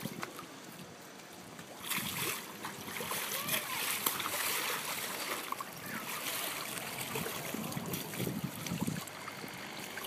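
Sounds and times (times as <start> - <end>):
pool water sloshing and splashing: 0.0 - 10.0.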